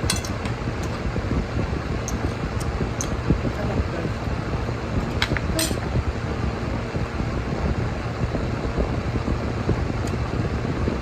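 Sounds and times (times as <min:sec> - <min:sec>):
low rumbling fan noise: 0:00.0 - 0:11.0.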